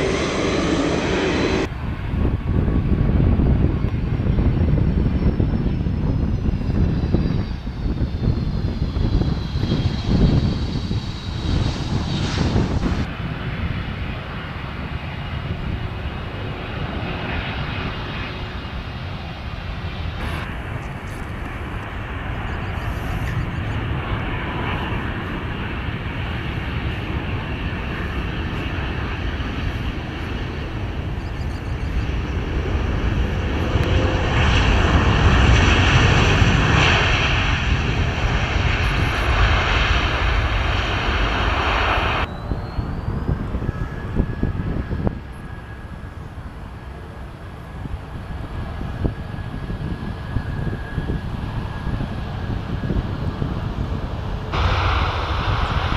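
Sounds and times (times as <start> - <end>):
jet airliner lifting off: 0.0 - 55.9
jets landing: 0.0 - 55.9.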